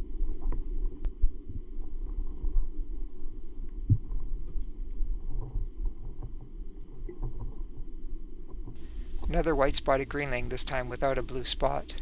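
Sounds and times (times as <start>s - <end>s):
underwater rumble: 0.0s - 12.0s.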